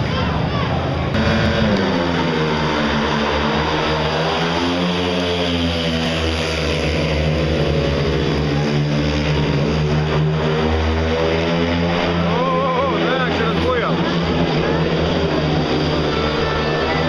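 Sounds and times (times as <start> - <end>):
motorcycles racing at full throttle: 0.0 - 17.0.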